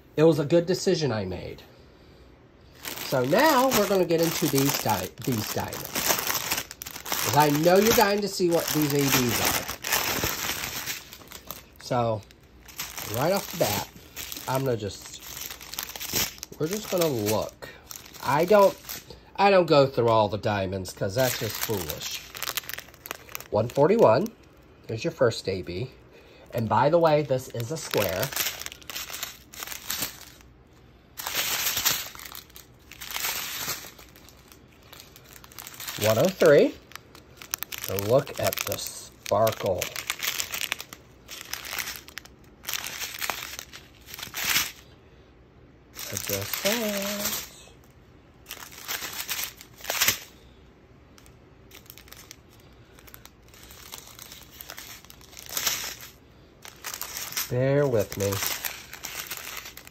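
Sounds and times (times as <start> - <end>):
plastic bags crinkling: 2.7 - 45.0, 45.9 - 59.9.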